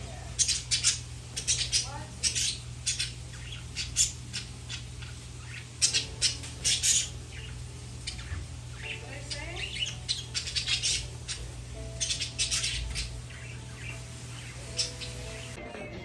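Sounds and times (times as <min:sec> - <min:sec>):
conure squawking: 0:00.4 - 0:15.6.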